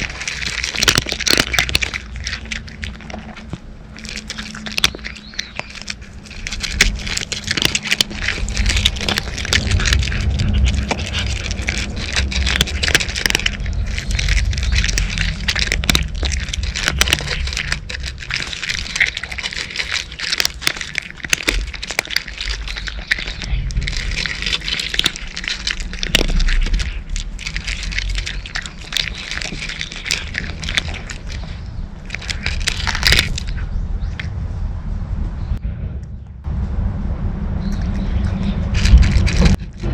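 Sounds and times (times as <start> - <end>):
cats crunching dry kibble: 0.0 - 34.4, 37.6 - 39.9.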